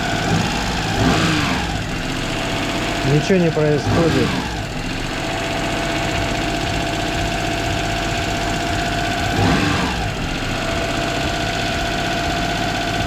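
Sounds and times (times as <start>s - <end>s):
petrol engine high idle: 0.0s - 13.0s.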